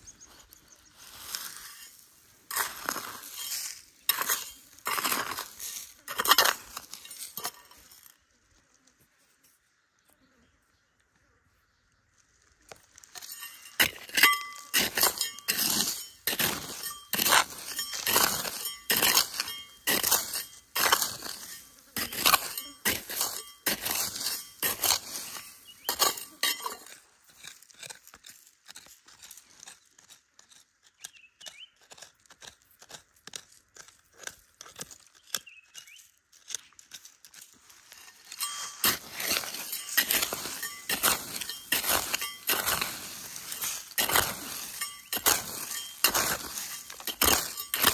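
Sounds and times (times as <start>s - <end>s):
trowel scraping gravelly soil: 0.0s - 10.0s, 12.0s - 47.9s
small stones clinking: 0.2s - 8.2s, 12.4s - 47.9s.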